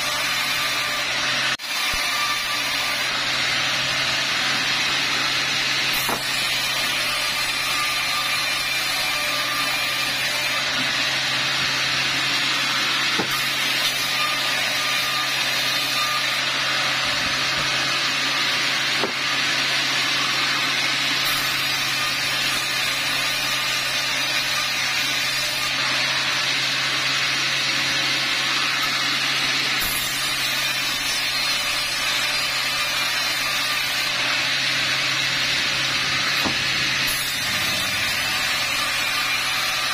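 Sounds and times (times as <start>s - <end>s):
band saw motor hum: 0.0s - 23.9s, 25.6s - 39.9s
saw blade cutting wood: 0.0s - 39.9s.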